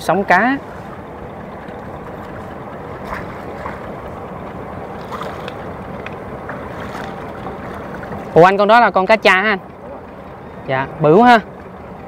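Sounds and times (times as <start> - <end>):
small boat noise: 0.0 - 12.0.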